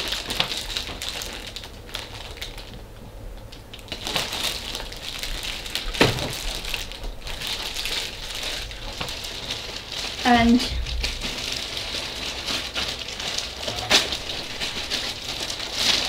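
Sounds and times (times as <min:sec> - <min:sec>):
plastic bag crinkling: 0:00.0 - 0:02.8, 0:03.5 - 0:16.0.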